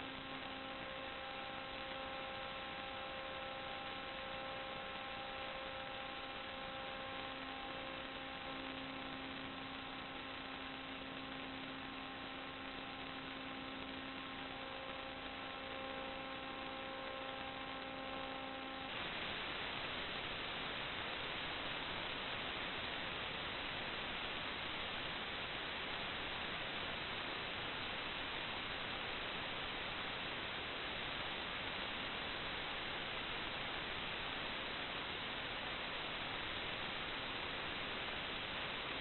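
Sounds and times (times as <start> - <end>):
electrical interference buzz: 0.0 - 39.0
steady hiss: 0.0 - 39.0.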